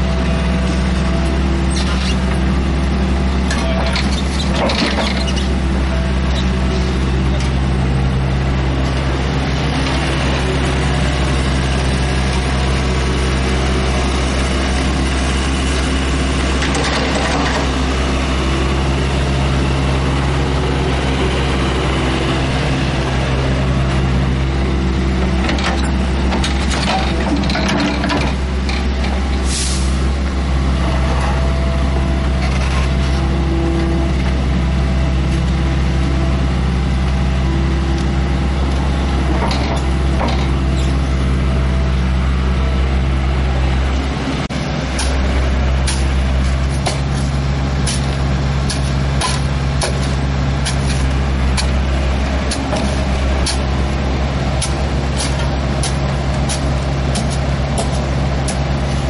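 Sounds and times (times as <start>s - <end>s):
diesel engine running under load: 0.0s - 59.0s
hydraulics whining: 0.0s - 59.0s.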